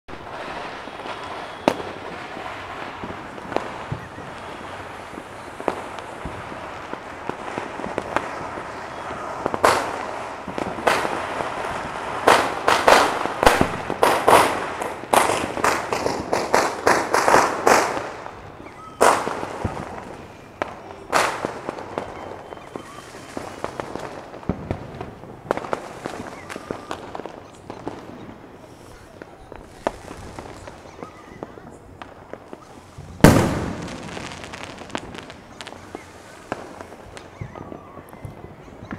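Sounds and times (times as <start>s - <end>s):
fireworks and firecrackers banging: 0.1s - 38.9s
steady background hiss: 0.2s - 38.8s.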